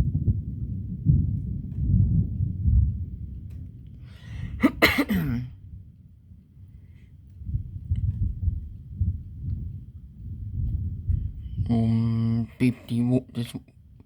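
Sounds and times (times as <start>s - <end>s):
thunder rumbling: 0.0s - 6.7s, 7.4s - 12.2s.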